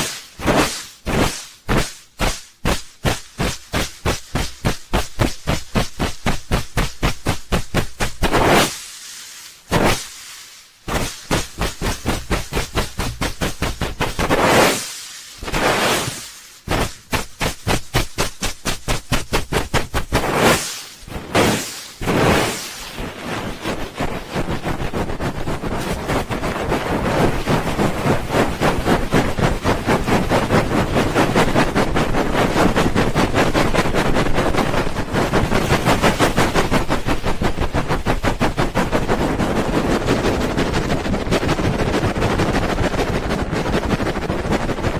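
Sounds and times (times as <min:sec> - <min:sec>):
hands rubbing microphone: 0:00.0 - 0:44.9.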